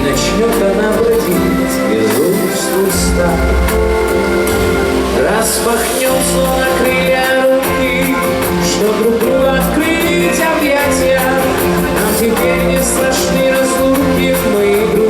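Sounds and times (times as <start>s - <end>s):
upbeat show music: 0.0s - 15.0s.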